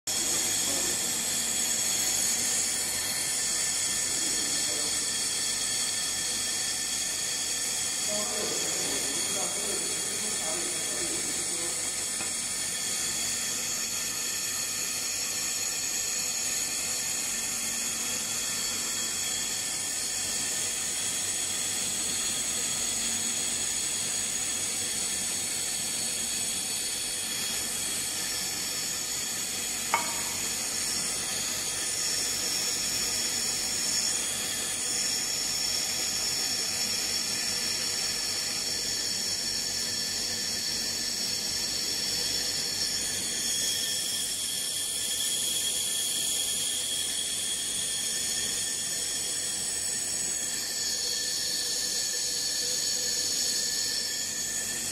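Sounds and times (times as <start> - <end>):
laser welder hissing: 0.1 - 54.9.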